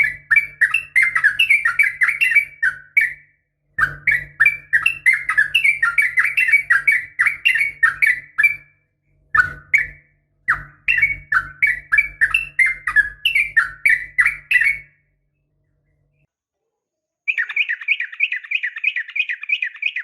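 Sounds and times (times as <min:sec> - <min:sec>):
bird chirping rapidly: 0:00.0 - 0:08.7, 0:09.3 - 0:15.1, 0:17.3 - 0:20.0.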